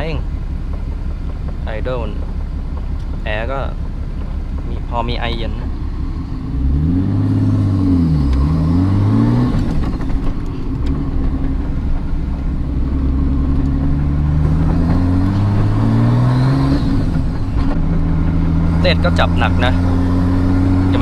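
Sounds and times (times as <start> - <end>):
car engine and loud exhaust: 0.0 - 21.0.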